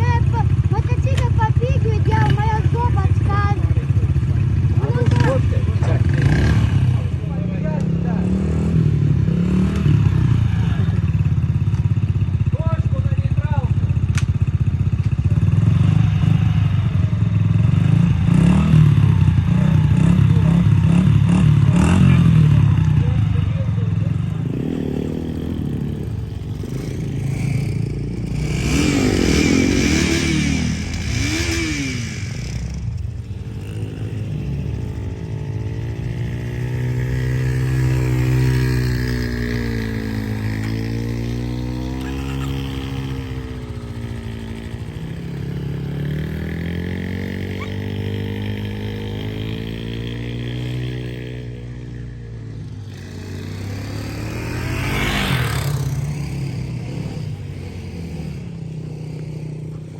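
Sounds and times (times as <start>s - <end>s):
dirt bike engine revving: 0.0s - 11.3s, 15.2s - 59.9s.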